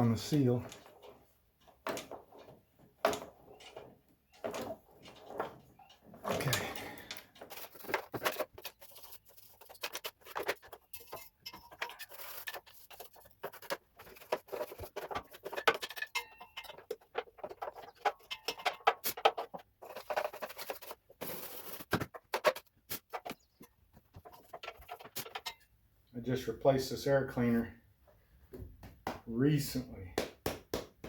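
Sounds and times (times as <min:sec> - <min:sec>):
hands clicking and scraping on parts: 0:00.0 - 0:25.8.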